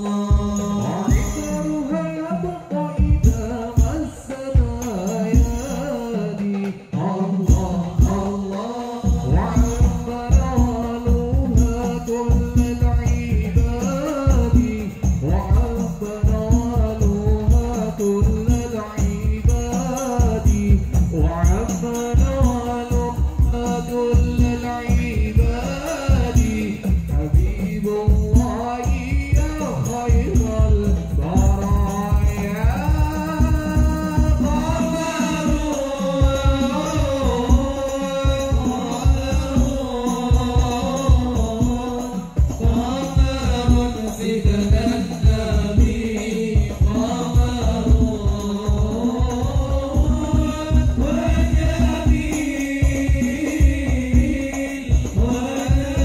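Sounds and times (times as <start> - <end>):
frame drums: 0.0 - 56.0
man singing into microphone: 0.0 - 56.0
deep bass drum: 3.0 - 5.8, 9.1 - 56.0.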